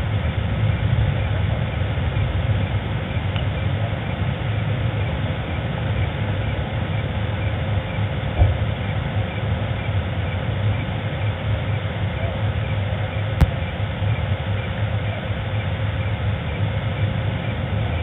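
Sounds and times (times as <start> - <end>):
low rumble and hum: 0.0 - 18.0.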